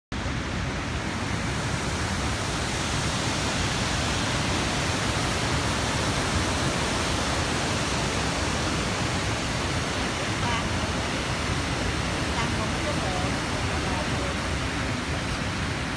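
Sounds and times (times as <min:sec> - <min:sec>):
waterfall rushing: 0:00.2 - 0:15.9.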